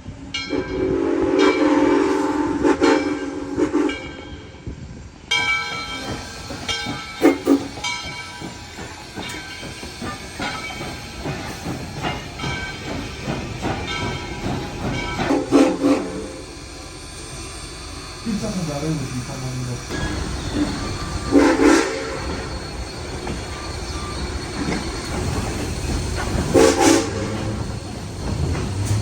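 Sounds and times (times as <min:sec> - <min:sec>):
steam hissing: 0:05.6 - 0:29.0.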